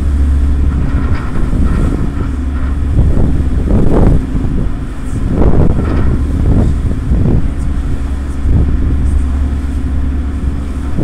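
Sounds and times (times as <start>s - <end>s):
ferry engine drone: 0.0s - 11.0s
wind buffeting microphone: 0.0s - 11.0s.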